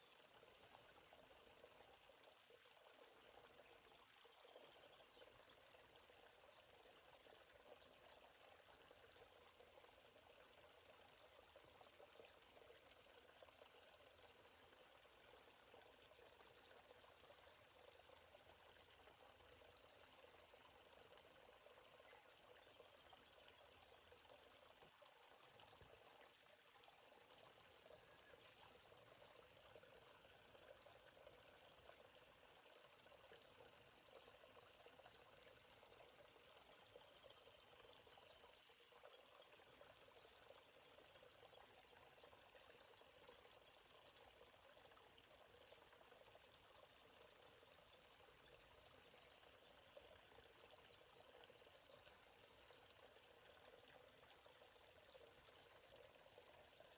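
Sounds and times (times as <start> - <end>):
crickets chirping: 0.0 - 56.9
faint flowing stream: 0.0 - 56.9.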